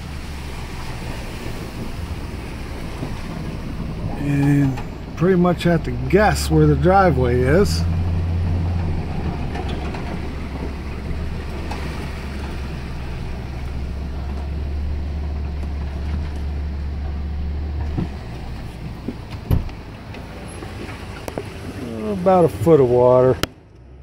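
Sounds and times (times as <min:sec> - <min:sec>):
water rushing: 0:00.0 - 0:23.5
truck engine running: 0:00.0 - 0:24.0.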